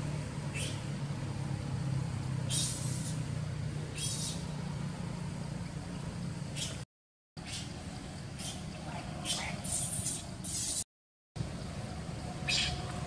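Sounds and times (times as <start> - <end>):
low engine hum: 0.0 - 6.8, 7.4 - 10.6, 11.4 - 13.0.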